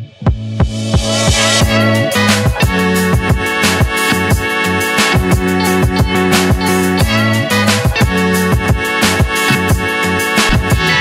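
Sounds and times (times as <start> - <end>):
steady drum beat: 0.1 - 11.0.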